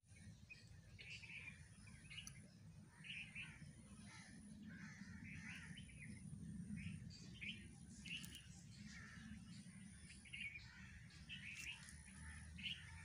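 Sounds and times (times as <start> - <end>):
faint bird chirps: 0.1 - 13.0
low steady background noise: 0.1 - 13.0.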